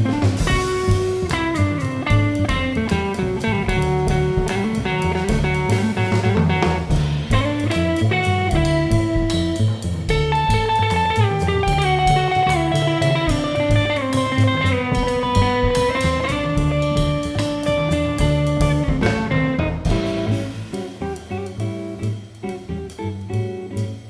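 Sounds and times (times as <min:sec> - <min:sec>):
drum kit with cymbal strokes: 0:00.0 - 0:24.0
electric guitar melody: 0:00.0 - 0:24.0
plucked upright bass: 0:00.0 - 0:24.0.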